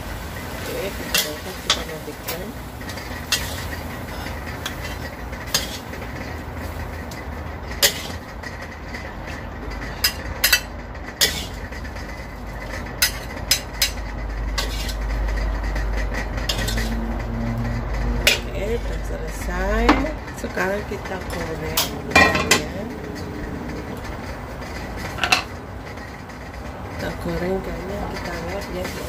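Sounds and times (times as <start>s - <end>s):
steady low rumble: 0.0s - 28.9s
pots and utensils clinking: 0.0s - 29.0s.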